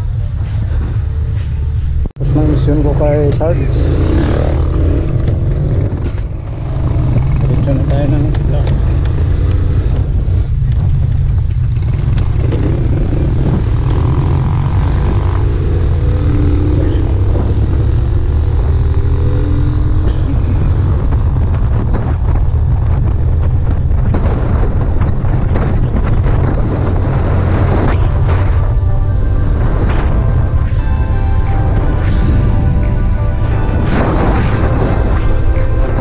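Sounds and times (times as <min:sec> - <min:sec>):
motorcycle engine running: 0:00.0 - 0:36.0
wind rumble on microphone: 0:00.0 - 0:36.0.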